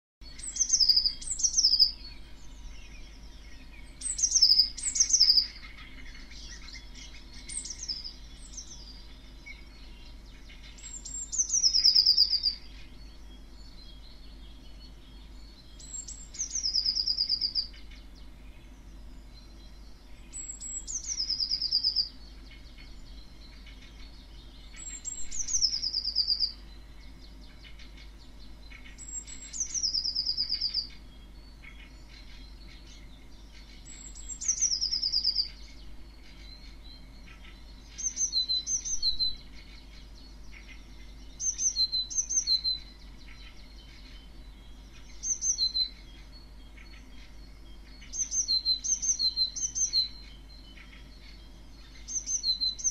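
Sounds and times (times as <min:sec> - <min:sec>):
songbird singing trill: 0:00.2 - 0:52.9.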